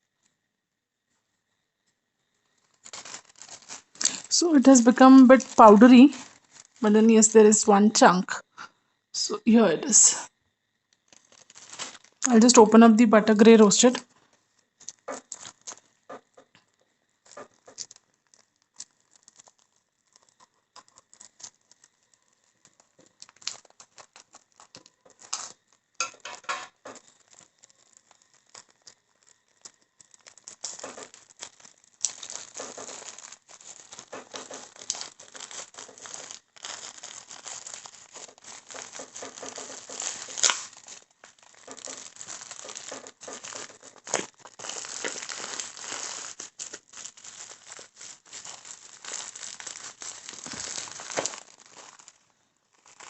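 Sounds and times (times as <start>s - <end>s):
plastic packaging rustling: 2.4s - 8.7s, 9.7s - 53.0s.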